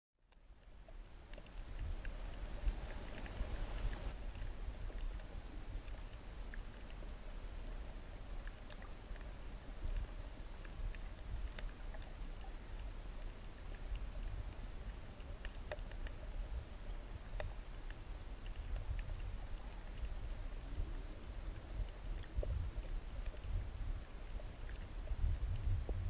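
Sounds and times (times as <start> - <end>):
low rumble of moving water: 0.2 - 26.0
sharp clicks underwater: 0.3 - 26.0.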